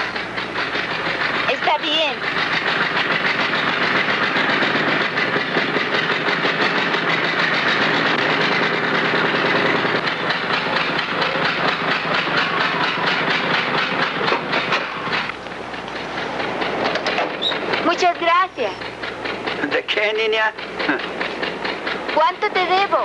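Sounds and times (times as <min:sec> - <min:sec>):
old car engine clattering: 0:00.0 - 0:23.0.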